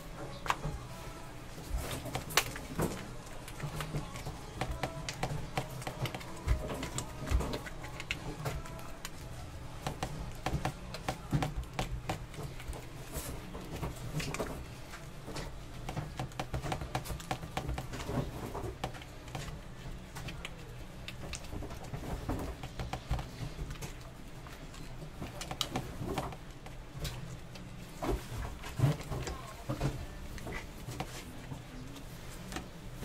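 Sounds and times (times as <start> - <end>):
low kitchen hum: 0.0 - 33.0
hands patting dough: 1.6 - 33.0.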